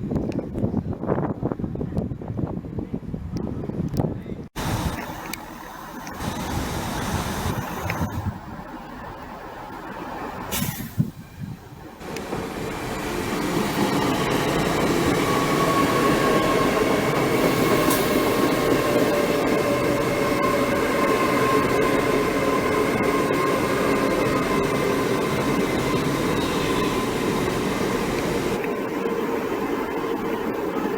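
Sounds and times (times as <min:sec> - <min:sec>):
train running: 0:04.6 - 0:30.9.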